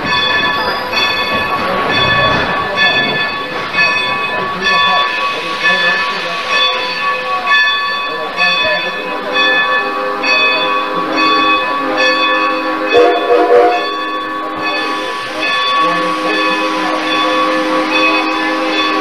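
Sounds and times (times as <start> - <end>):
locomotive bell ringing: 0.0 - 19.0
steam hissing: 1.8 - 19.0.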